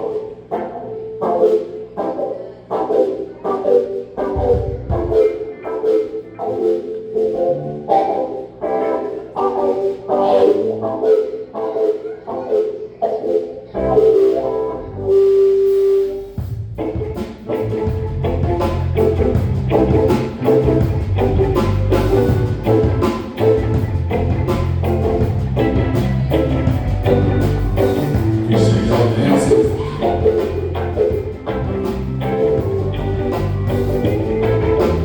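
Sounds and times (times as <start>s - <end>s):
live band playing instrumental: 0.0s - 12.8s, 13.4s - 35.0s.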